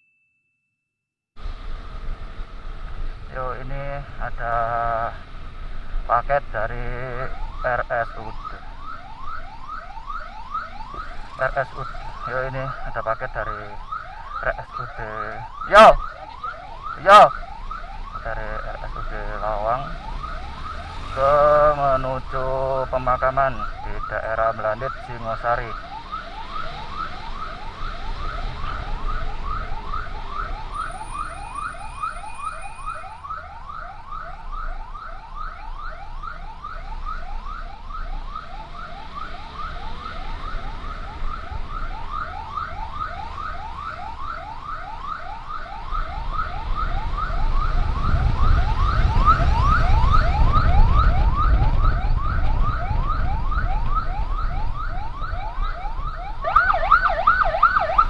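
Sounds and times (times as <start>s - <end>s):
emergency siren yelping: 6.1s - 58.0s.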